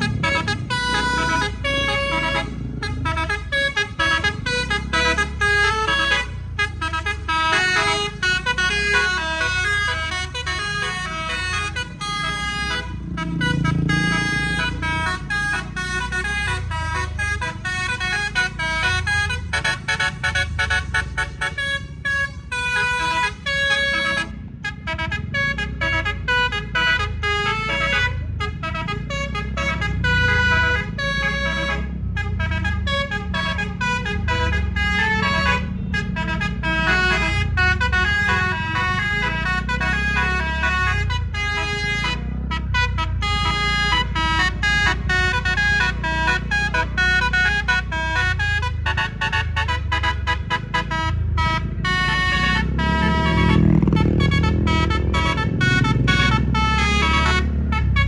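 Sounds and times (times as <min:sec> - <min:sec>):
bus engine rumble: 0:00.0 - 0:58.0
musical air horns playing tune: 0:00.0 - 0:58.0.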